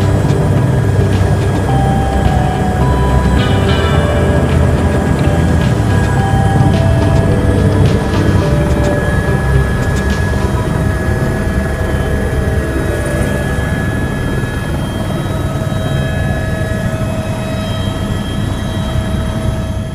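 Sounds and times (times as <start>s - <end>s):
helicopter rotor rumble: 0.0s - 19.9s
high turbine whine: 0.0s - 19.9s.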